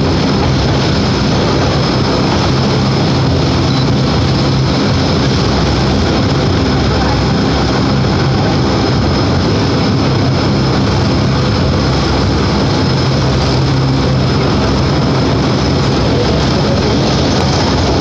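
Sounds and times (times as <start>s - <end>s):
constant low hum: 0.0s - 18.0s
train motors and wheels rumbling: 0.0s - 18.0s.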